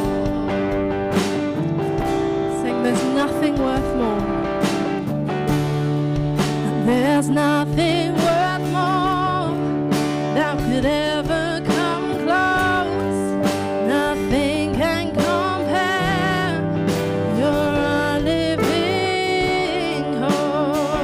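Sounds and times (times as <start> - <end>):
worship band playing slow song: 0.0 - 21.0.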